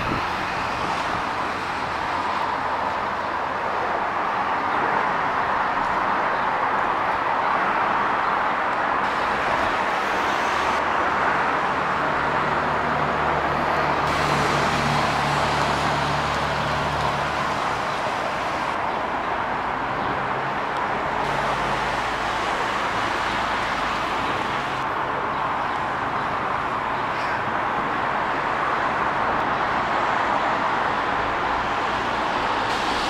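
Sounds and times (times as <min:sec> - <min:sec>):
heavy vehicle engine hum: 0:00.0 - 0:33.0
road traffic hiss: 0:00.0 - 0:33.0.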